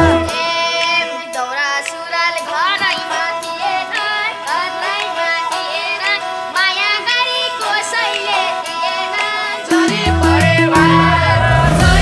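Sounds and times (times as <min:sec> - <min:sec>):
high-pitched sung melody: 0:00.0 - 0:12.0
steady held tones: 0:00.0 - 0:12.0.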